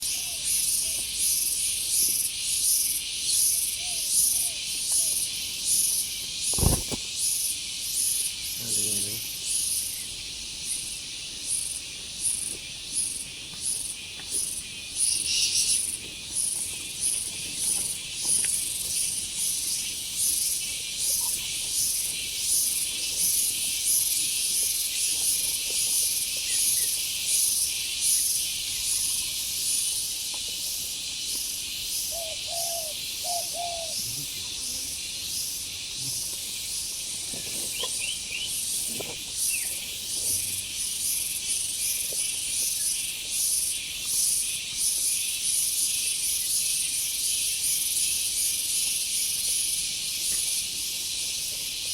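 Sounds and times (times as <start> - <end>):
insects buzzing shrilly: 0.0 - 51.9.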